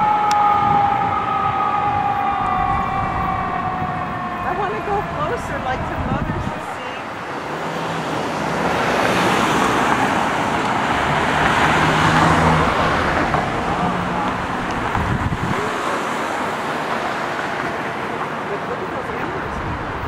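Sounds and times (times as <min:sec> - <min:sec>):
vehicle passing: 0:01.2 - 0:20.0.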